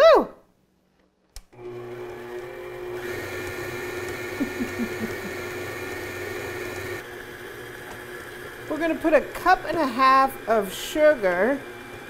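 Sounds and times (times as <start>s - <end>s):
stand mixer whipping in steel bowl: 1.6s - 12.0s.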